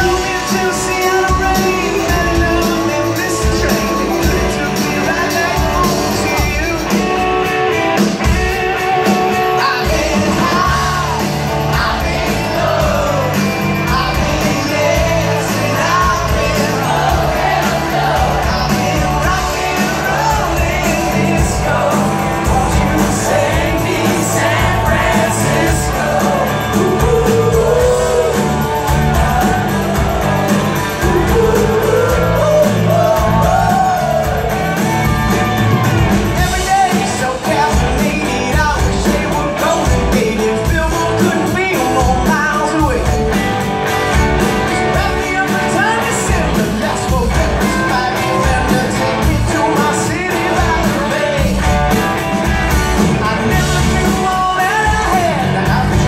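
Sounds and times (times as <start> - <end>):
lead vocal singing: 0.0 - 56.0
live rock band playing: 0.0 - 56.0.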